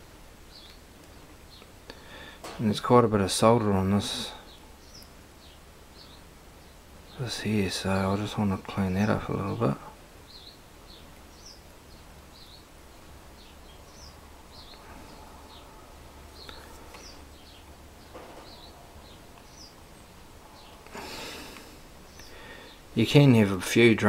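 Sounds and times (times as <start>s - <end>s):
low steady hum: 0.0s - 24.0s
soft rush of noise: 0.0s - 24.0s
small bird chirping: 0.5s - 2.0s, 3.9s - 21.4s, 22.0s - 22.9s.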